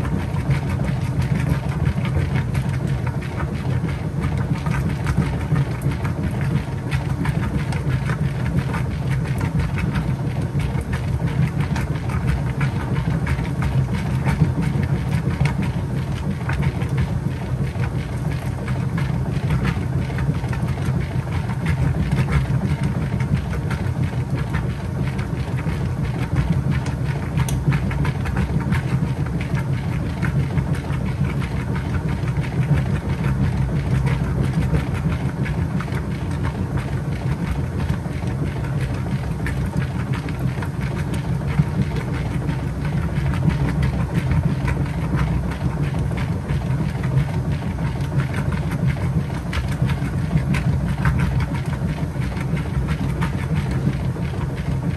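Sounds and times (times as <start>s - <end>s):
washing machine agitating: 0.0s - 54.9s.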